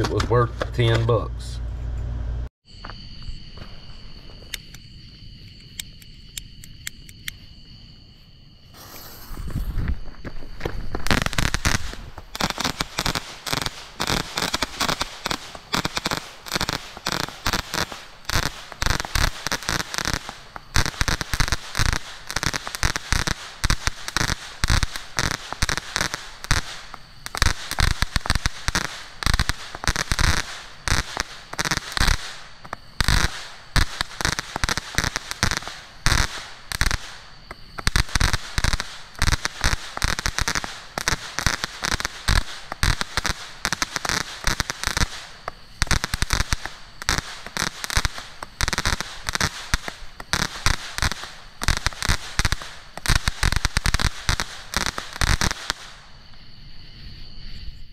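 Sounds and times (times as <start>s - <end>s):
fireworks cake firing: 8.7s - 56.1s
fireworks crackling bursts: 8.7s - 56.2s.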